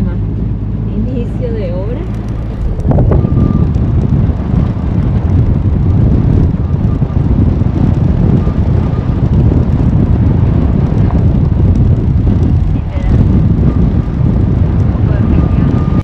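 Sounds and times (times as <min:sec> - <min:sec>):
van rumbling over gravel: 0:00.6 - 0:16.0.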